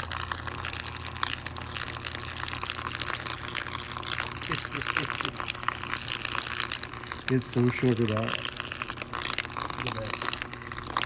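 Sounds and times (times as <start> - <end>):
electrical crackling in salt water: 0.0 - 11.0
steady low hum: 0.0 - 11.0.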